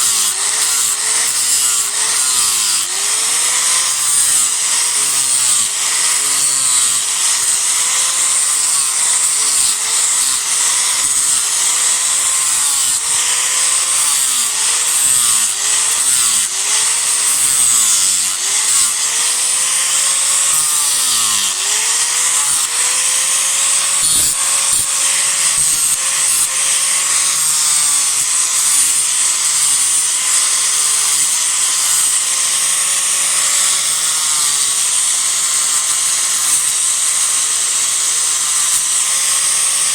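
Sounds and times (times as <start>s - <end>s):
disc grinder grinding wood: 0.0s - 39.9s.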